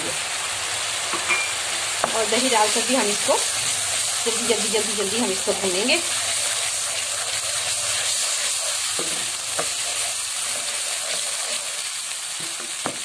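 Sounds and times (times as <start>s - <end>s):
masala sizzling in hot oil: 0.0s - 13.0s
wooden spoon stirring: 2.1s - 13.0s.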